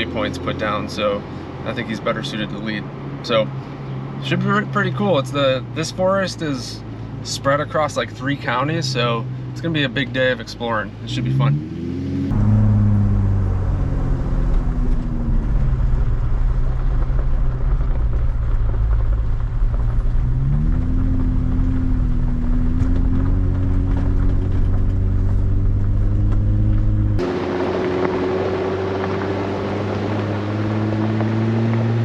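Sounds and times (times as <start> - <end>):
car engine running: 0.0 - 32.0
tyre and road rumble: 0.0 - 32.0.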